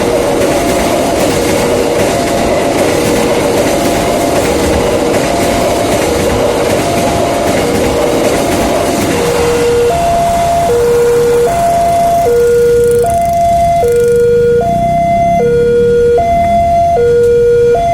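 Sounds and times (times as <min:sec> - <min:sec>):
train rumbling and wheels clattering: 0:00.0 - 0:17.5
two-tone crossing warning siren: 0:00.0 - 0:17.9.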